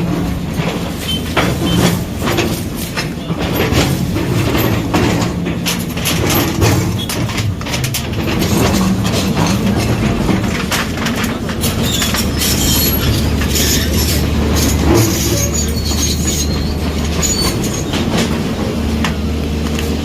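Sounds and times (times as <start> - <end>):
demolition machinery engine hum: 0.0 - 20.0
metallic clanks and debris crunching: 0.0 - 20.0.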